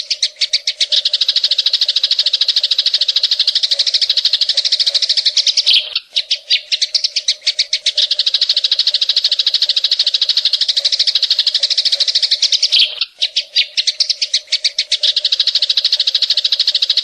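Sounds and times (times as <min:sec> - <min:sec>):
bird singing fast trill: 0:00.0 - 0:17.0.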